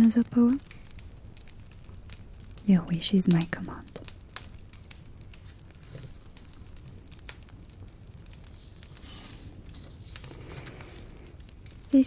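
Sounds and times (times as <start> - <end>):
low steady hum: 0.0 - 12.0
small crackles and clicks: 0.0 - 12.0
soft rustle: 0.7 - 12.0.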